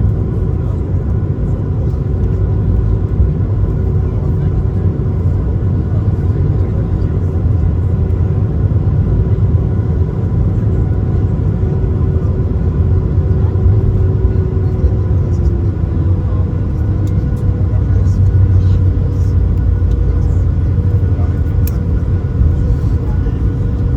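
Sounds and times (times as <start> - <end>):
aircraft cabin low rumble: 0.0 - 23.9
faint jet engine hum: 0.0 - 23.9.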